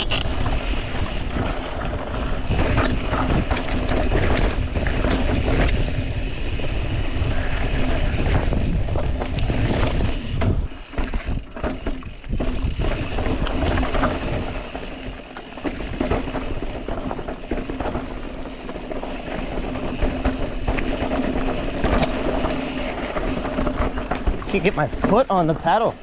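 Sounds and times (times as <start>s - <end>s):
wind buffeting microphone: 0.0s - 25.7s
bike rattling over bumps: 0.0s - 26.0s
tyres rolling on dirt: 0.0s - 26.0s.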